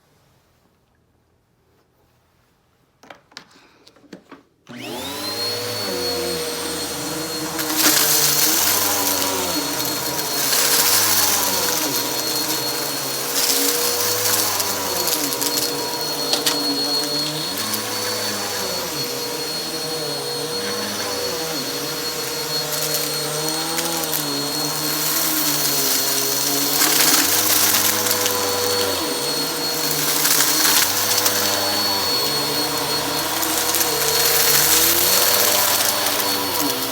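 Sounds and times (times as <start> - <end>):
vacuum cleaner motor on carpet: 4.7 - 36.9
vacuum sucking up crunchy debris: 4.8 - 36.9.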